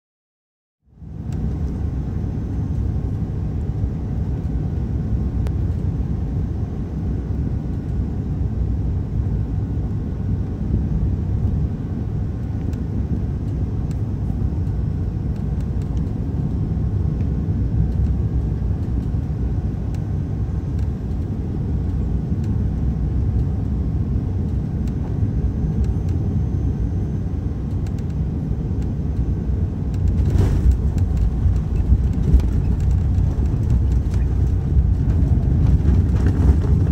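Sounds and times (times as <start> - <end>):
airplane cabin rumble: 0.9 - 36.9.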